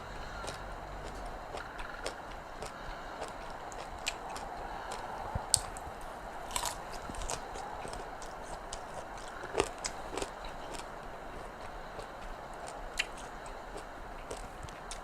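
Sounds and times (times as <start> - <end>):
person chewing crunchy food: 0.2 - 5.8, 6.5 - 15.0.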